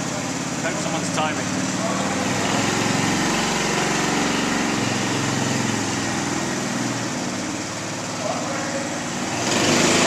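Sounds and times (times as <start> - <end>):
go-kart engine running: 0.0 - 10.0.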